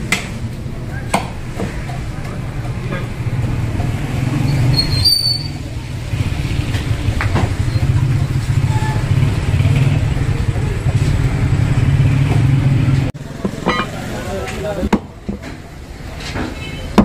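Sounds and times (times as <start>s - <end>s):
motorcycle engine rumbling: 0.0s - 17.0s
street noise: 0.0s - 17.0s.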